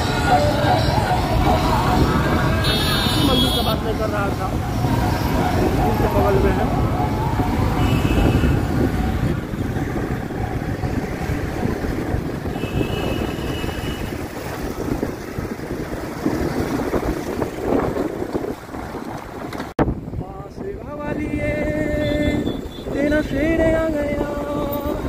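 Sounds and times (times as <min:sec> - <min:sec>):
traffic engine and road noise: 0:00.0 - 0:25.0
wind rushing over microphone: 0:04.0 - 0:25.0.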